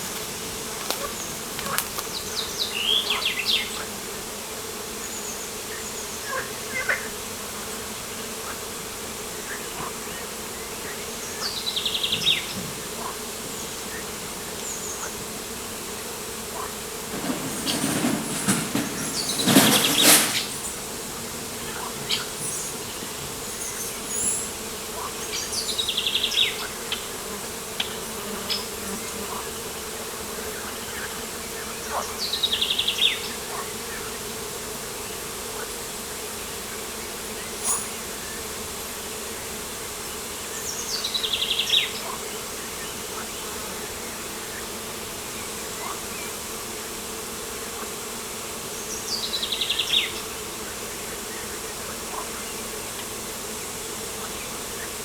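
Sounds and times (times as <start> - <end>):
close buzzing passing: 0.0 - 55.0
insects buzzing: 0.0 - 55.0.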